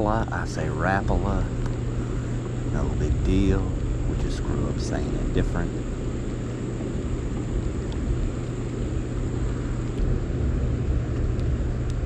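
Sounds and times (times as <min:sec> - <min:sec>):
generator low hum: 0:00.0 - 0:12.0
water rumbling: 0:00.0 - 0:12.0.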